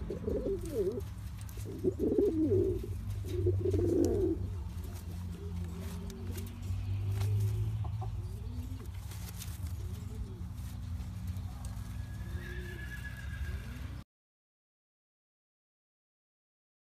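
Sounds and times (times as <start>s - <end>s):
pigeon cooing: 0.0s - 14.0s.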